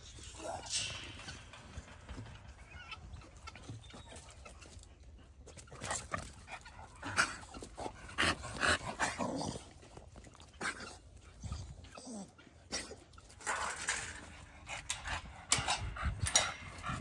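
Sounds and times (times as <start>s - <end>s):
dog noises: 0.7s - 17.0s.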